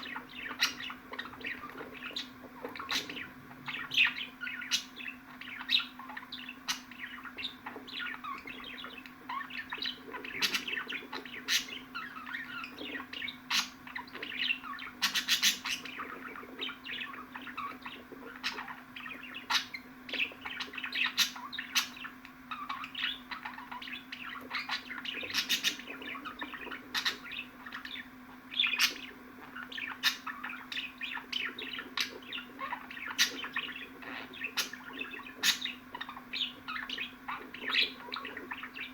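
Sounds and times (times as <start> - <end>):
budgerigar warbling and chattering: 0.0 - 38.9.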